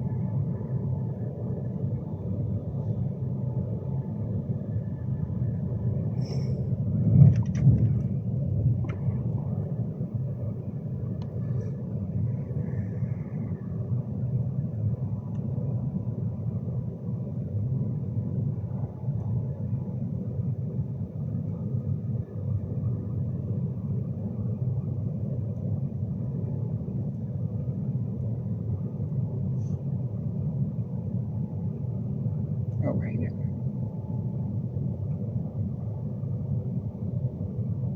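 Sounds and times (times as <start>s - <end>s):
train interior rumble: 0.0s - 37.9s.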